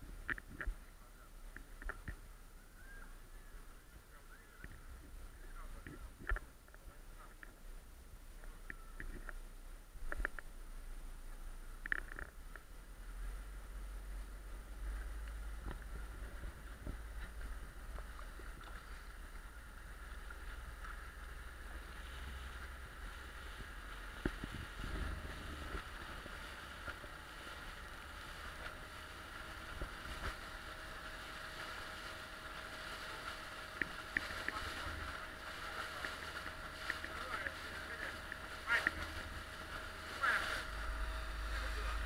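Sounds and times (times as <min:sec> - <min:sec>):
motorboat engine running: 0:00.0 - 0:42.0
water rushing along hull: 0:00.0 - 0:42.0.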